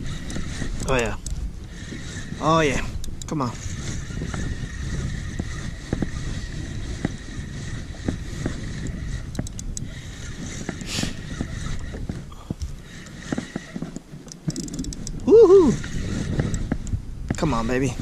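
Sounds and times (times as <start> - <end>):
fishing reel clicking: 0.0 - 18.0
wind on the microphone: 0.0 - 18.0.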